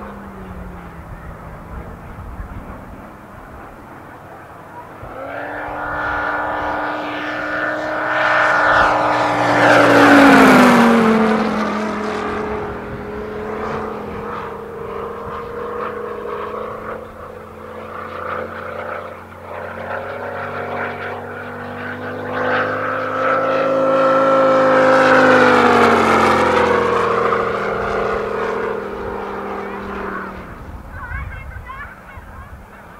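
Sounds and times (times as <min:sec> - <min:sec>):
model plane engine flying past: 0:00.0 - 0:32.9.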